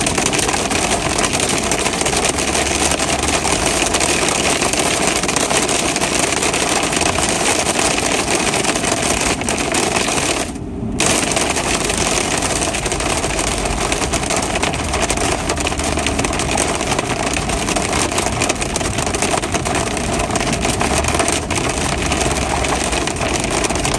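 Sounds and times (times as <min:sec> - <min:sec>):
hail clattering: 0:00.0 - 0:23.9.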